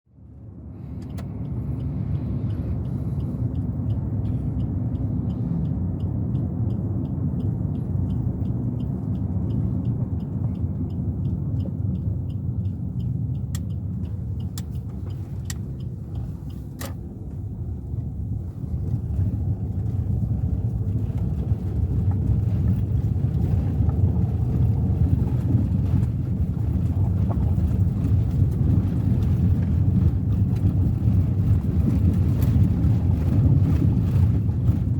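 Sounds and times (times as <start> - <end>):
car engine and road rumble: 0.0 - 34.9
light regular ticking: 0.8 - 34.9.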